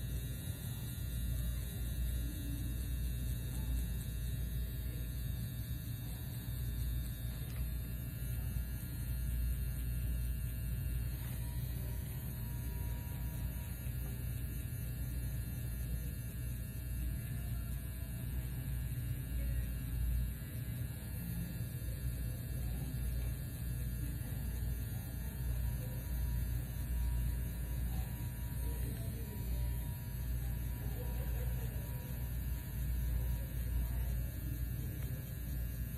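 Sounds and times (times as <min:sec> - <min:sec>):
tattoo machine buzzing: 0:00.0 - 0:35.9.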